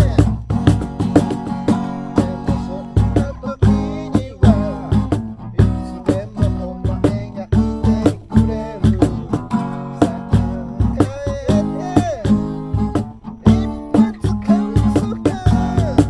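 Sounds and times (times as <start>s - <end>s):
acoustic guitar strumming: 0.0s - 16.0s
person singing: 0.0s - 16.0s.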